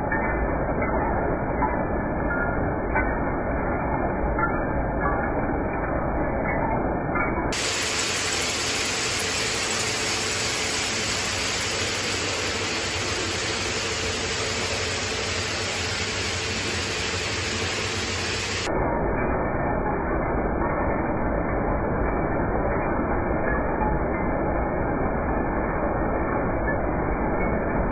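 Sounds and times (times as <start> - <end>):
braiding machines clattering: 0.0 - 27.9.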